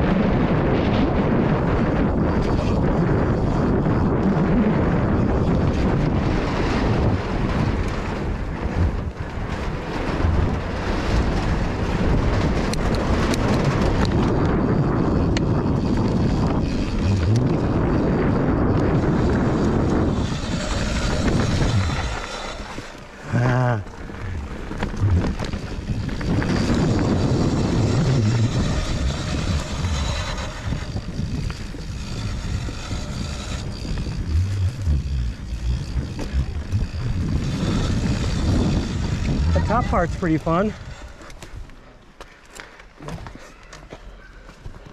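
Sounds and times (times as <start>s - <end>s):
wind rushing over microphone: 0.0s - 43.4s
sharp clicks and rattles: 5.1s - 43.8s
tyres rumbling over planks: 5.2s - 44.9s.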